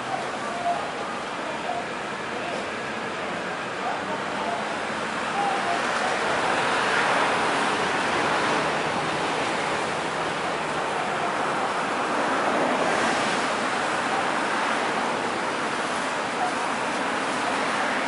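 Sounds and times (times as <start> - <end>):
street traffic hiss: 0.0 - 18.0.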